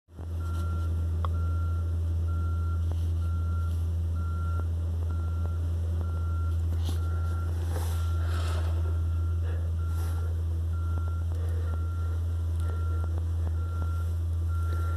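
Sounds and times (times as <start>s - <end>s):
low engine drone: 0.1s - 14.9s
reversing alarm beeping: 0.4s - 14.9s.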